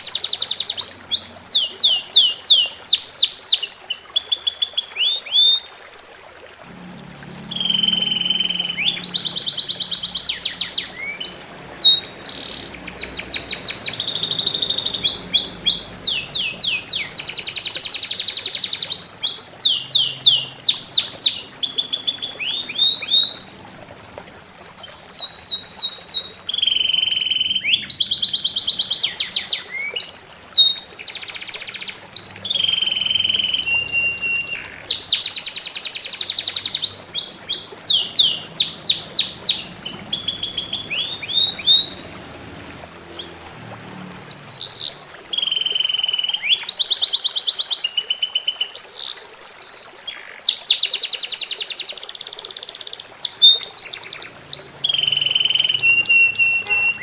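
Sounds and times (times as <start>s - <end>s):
songbird singing: 0.0s - 5.7s, 6.6s - 24.2s, 24.8s - 57.0s.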